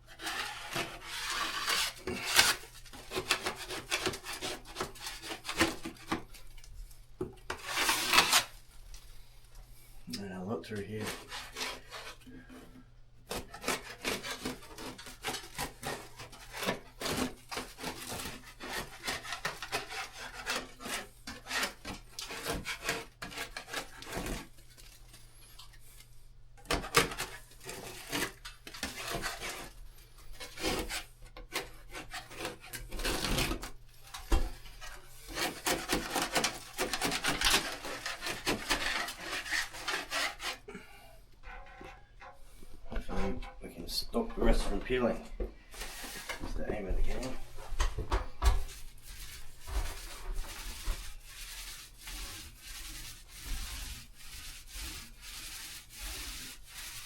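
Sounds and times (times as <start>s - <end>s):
hand tool scraping a painted wall: 0.0s - 57.0s.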